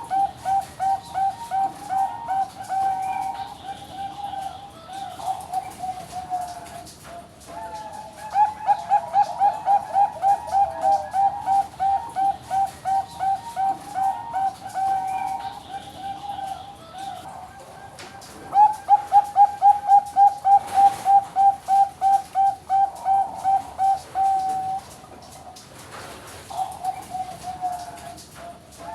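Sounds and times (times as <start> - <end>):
dove cooing: 0.0 - 25.6, 26.4 - 28.9.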